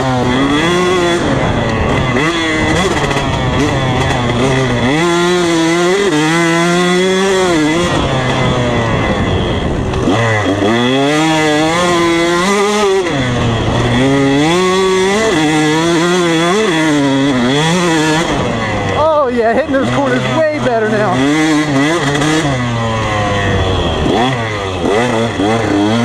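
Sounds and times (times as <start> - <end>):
two-stroke motocross bike revving: 0.0 - 26.0.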